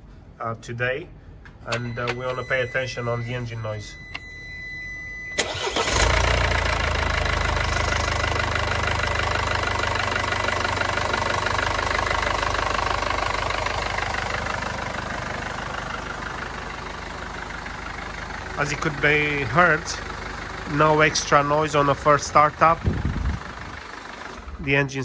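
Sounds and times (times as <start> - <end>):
diesel engine starting and idling: 1.3 - 25.0.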